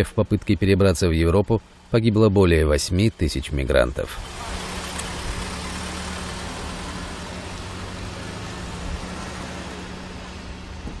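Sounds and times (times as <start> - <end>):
car engine hum: 0.0 - 11.0
tyre and road hiss: 0.1 - 11.0.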